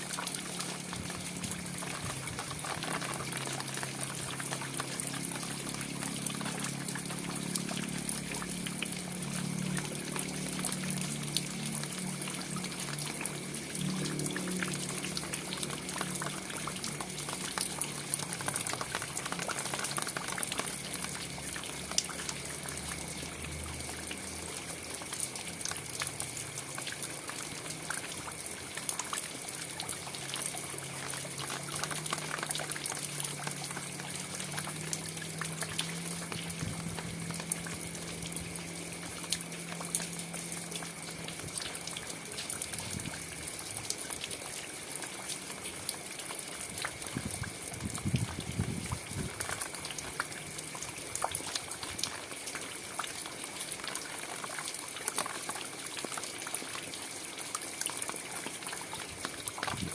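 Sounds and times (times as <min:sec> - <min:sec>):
raindrops ticking: 0:00.0 - 0:59.9
steady rainfall hiss: 0:00.0 - 0:59.9.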